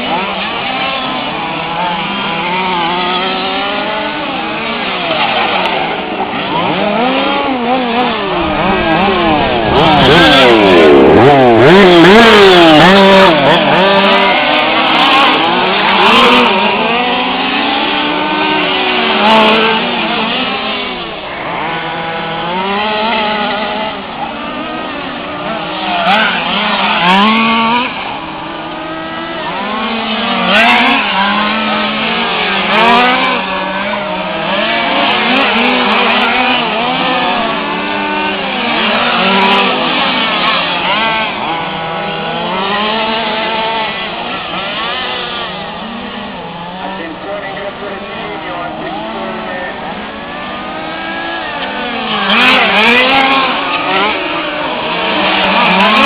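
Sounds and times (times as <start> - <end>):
radio-controlled car engines revving: 0.0 - 56.0.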